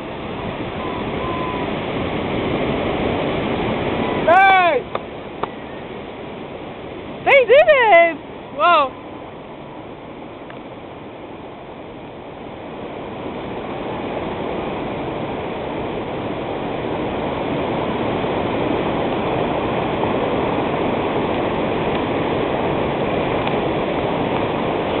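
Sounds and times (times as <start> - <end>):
whitewater rushing over rapids: 0.0 - 25.0.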